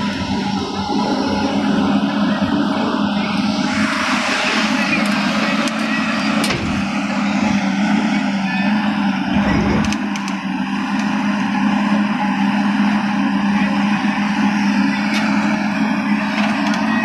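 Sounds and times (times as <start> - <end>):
excavator diesel engine running: 0.0 - 17.0
hydraulic machine noise: 0.0 - 17.0.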